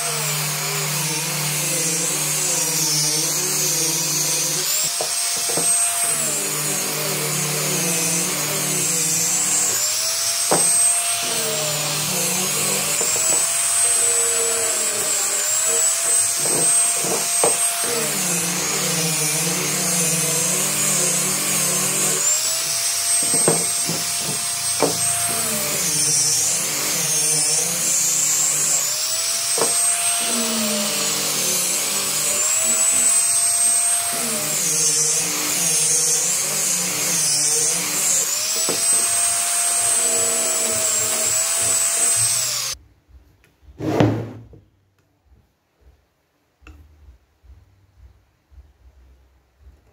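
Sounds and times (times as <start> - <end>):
angle grinder sanding wood: 0.0 - 42.8.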